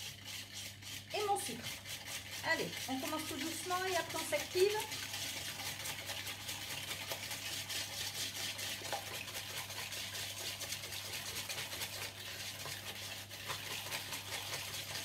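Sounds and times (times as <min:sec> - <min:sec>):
whisk swishing in plastic pitcher: 0:00.0 - 0:15.0.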